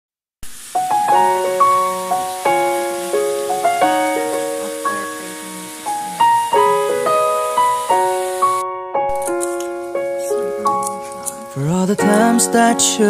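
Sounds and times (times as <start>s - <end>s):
piano music: 0.6s - 13.0s.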